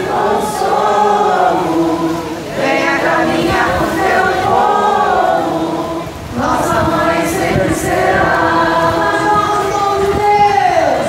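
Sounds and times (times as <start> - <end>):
crowd singing a hymn: 0.0 - 11.0.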